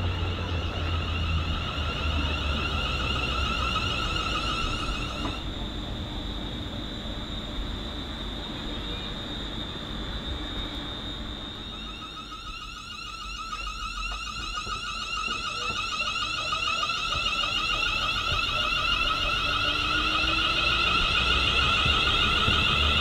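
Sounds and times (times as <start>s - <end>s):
warbling alarm tone: 0.0s - 5.7s, 10.1s - 23.0s.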